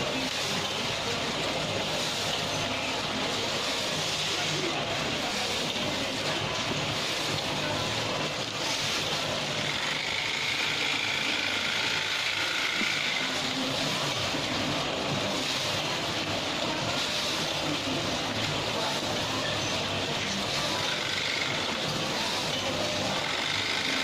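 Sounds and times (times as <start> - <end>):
packing machine running: 0.0 - 24.0.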